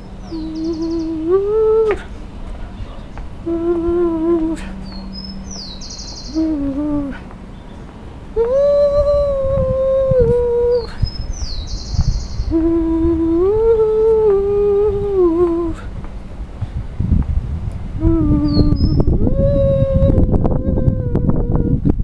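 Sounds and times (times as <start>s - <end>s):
person humming a slow tune: 0.0s - 2.3s, 3.3s - 16.1s, 17.8s - 22.0s.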